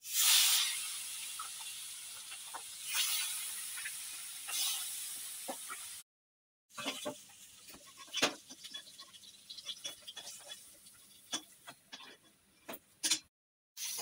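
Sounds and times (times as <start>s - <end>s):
fish frying in hot oil: 0.0s - 6.0s, 6.7s - 12.2s, 13.8s - 14.0s.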